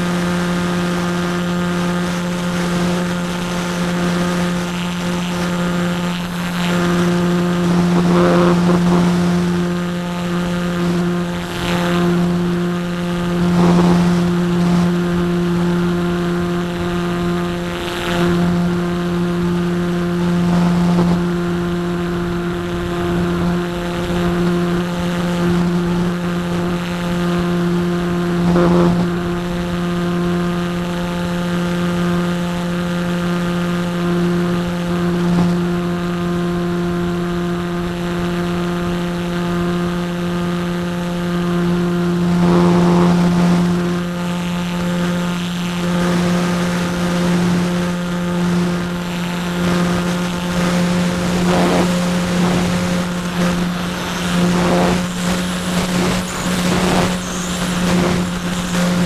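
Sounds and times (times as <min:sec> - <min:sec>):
rushes of air noise: 0:00.0 - 0:39.8, 0:40.4 - 0:59.0
electric motor and propeller droning: 0:00.0 - 0:59.0.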